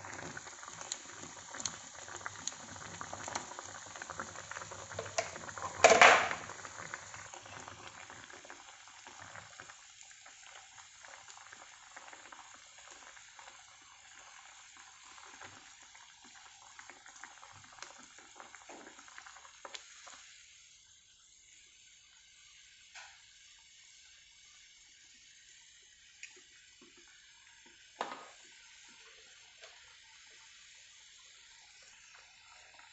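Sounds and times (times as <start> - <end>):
sauce bubbling in a frying pan: 0.0 - 32.9.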